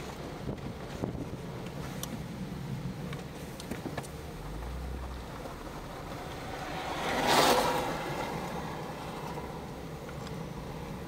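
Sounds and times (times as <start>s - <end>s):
car driving on gravel: 0.0s - 11.0s
low wind rumble: 0.0s - 11.0s.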